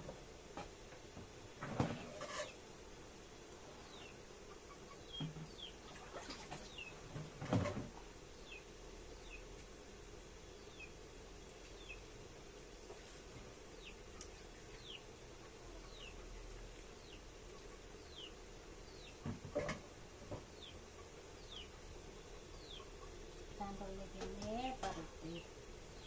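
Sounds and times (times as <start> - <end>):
small birds chirping: 3.7 - 26.0.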